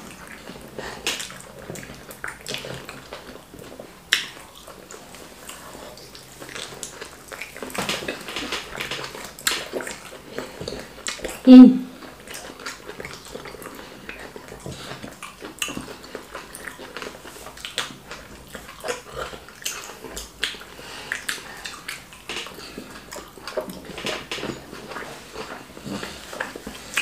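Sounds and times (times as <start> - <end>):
wet chewing and smacking: 0.0 - 27.0.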